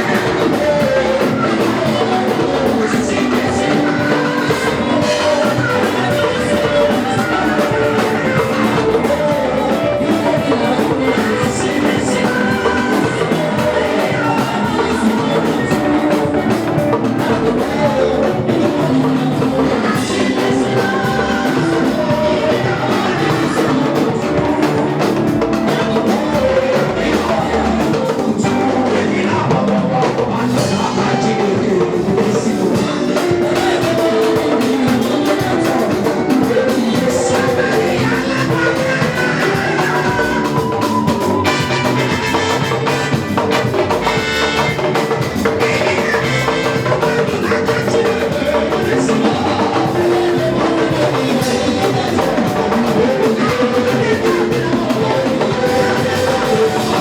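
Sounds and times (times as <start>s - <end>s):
drum kit beat: 0.0s - 57.0s
gospel worship band music: 0.0s - 57.0s.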